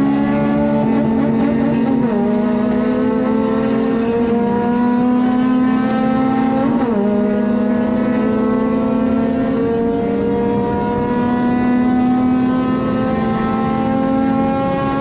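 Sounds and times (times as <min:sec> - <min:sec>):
car engine accelerating with gear shifts: 0:00.0 - 0:15.0.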